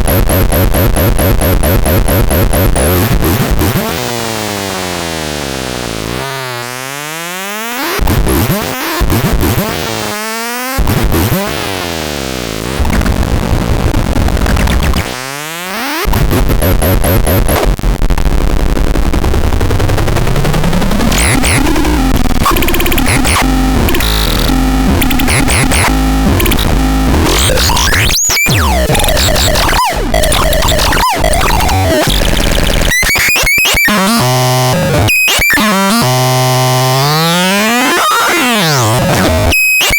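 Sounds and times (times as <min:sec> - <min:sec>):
harsh distorted electronic noise: 0:00.0 - 0:39.9.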